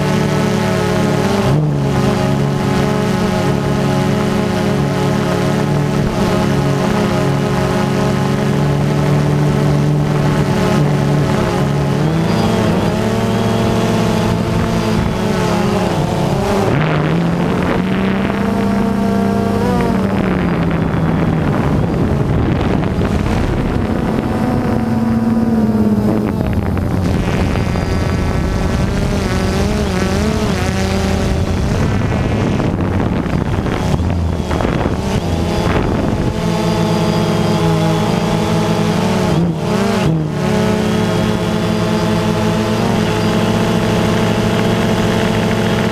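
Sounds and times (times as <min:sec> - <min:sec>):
drone propellers whining: 0:00.0 - 0:45.9
wind on microphone: 0:00.0 - 0:45.9.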